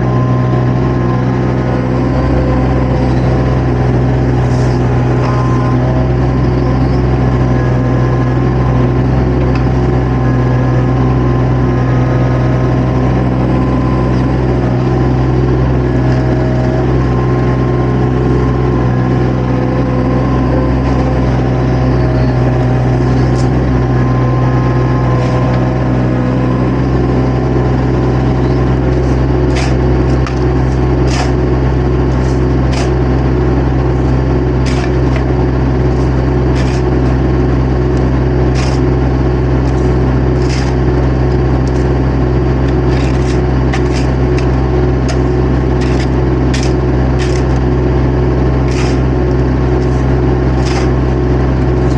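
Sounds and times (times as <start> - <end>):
construction machine engine running: 0.0 - 51.9.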